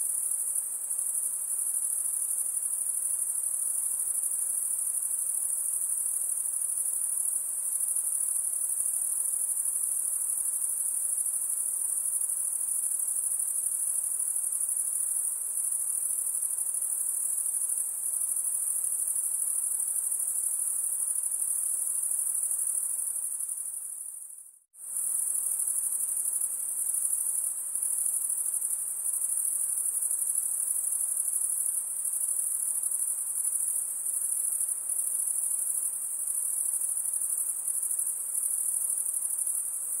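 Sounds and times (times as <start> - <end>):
insects chirring: 0.2 - 40.0.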